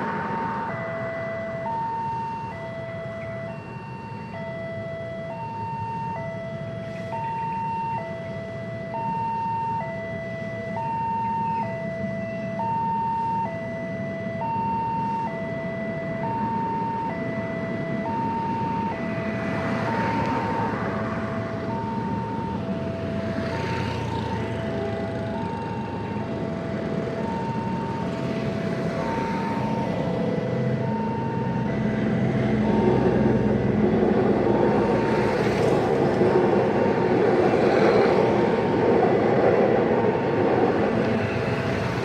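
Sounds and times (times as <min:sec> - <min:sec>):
road traffic rumbling: 0:00.0 - 0:42.0.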